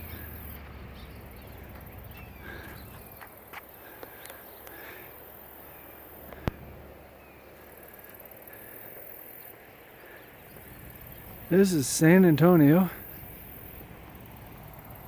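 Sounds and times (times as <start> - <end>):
faint distant bird calls: 0.0 - 15.0
faint insect calls: 0.0 - 15.0.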